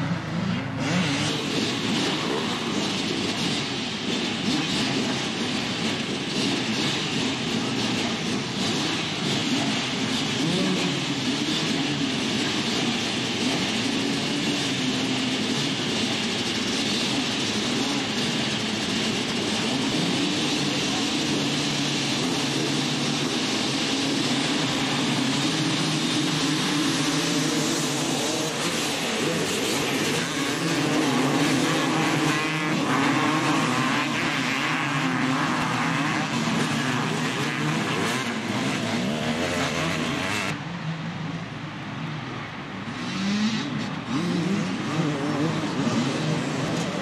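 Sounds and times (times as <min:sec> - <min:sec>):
motocross engines idling and revving: 0:00.0 - 0:47.0.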